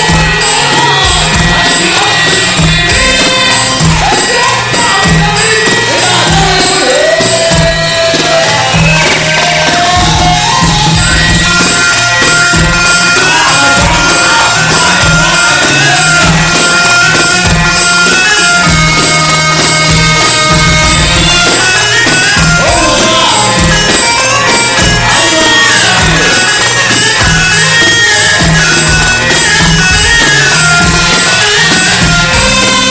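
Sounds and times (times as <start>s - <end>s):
electronic song with heavy beat: 0.0s - 32.9s
lead melody with echo: 0.0s - 32.9s.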